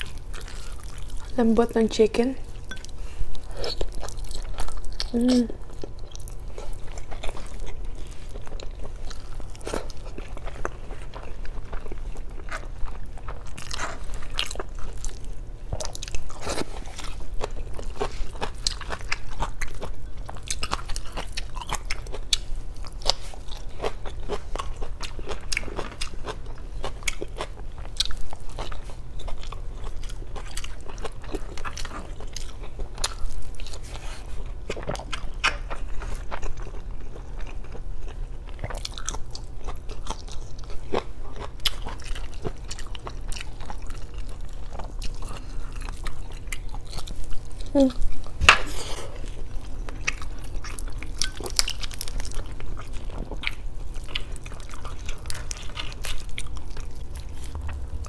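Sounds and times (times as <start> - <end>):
person chewing food: 0.0 - 1.4, 2.4 - 58.0
steady low hum: 0.0 - 58.0.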